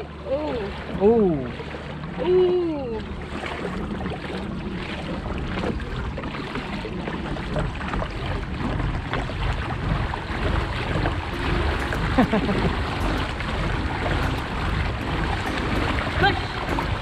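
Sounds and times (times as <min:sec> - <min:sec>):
water splashing along kayak hull: 0:00.0 - 0:17.0
wind buffeting microphone: 0:03.3 - 0:17.0.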